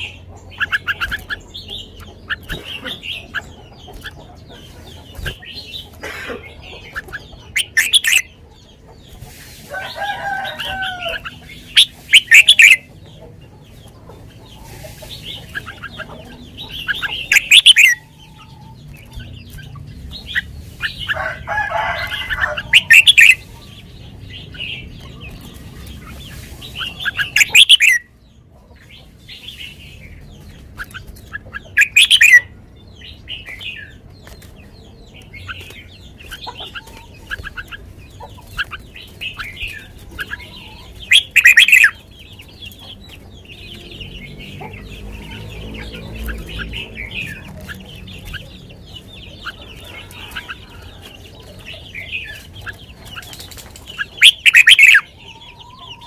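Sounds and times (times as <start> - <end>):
other bird calls: 0.0 - 56.0.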